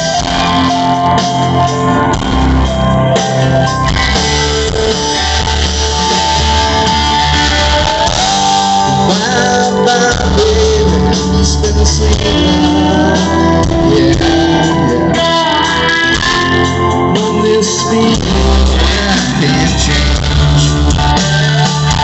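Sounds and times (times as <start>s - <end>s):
electric guitar: 0.0s - 22.0s
live rock band: 0.0s - 22.0s
man singing: 4.1s - 22.0s.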